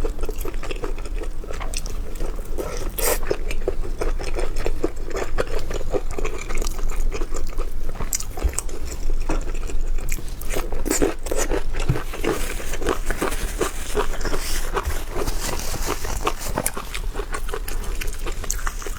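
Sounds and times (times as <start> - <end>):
person chewing food with crunching: 0.0 - 18.9.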